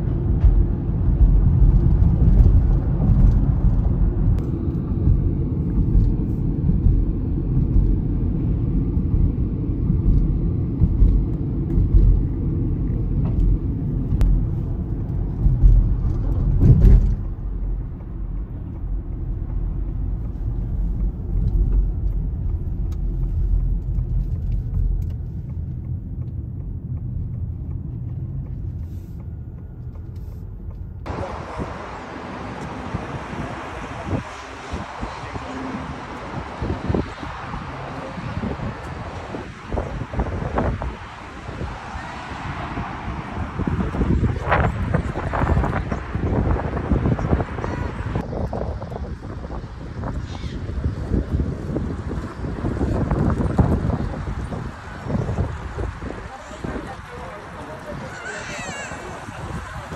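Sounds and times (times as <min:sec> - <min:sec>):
car cabin road noise: 0:00.0 - 0:59.9.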